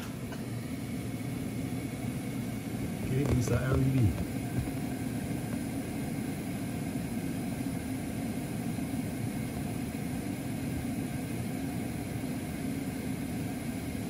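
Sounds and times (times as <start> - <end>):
refrigerant gas rushing: 0.0 - 14.0.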